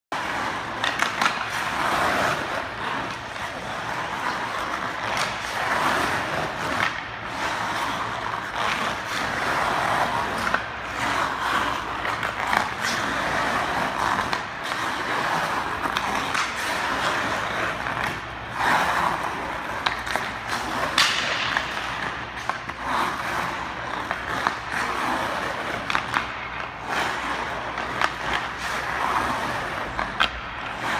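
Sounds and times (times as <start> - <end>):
skate blades scraping ice: 0.1 - 30.9
hockey stick tapping puck: 0.2 - 30.9.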